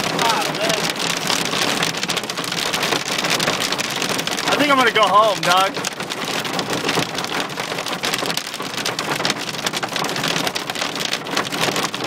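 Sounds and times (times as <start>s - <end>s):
hailstones pelting down: 0.0s - 12.0s.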